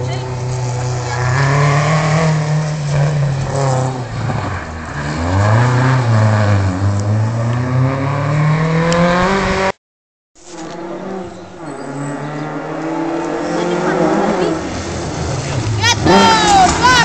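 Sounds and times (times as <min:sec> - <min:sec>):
rally car engine revving: 0:00.0 - 0:09.8, 0:10.4 - 0:17.0.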